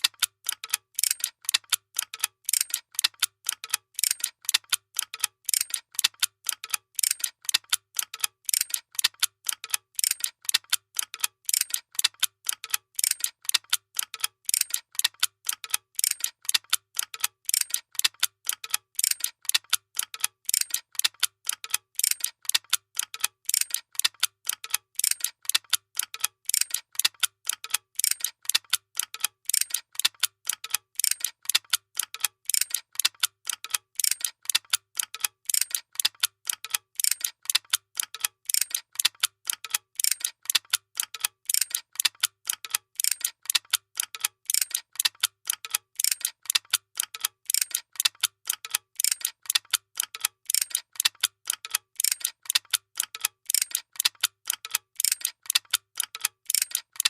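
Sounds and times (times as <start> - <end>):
machinery ticking clicks: 0.0 - 57.0.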